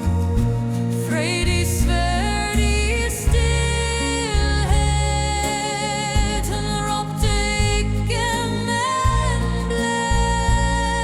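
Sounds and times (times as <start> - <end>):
deep sustained low notes: 0.0 - 11.0.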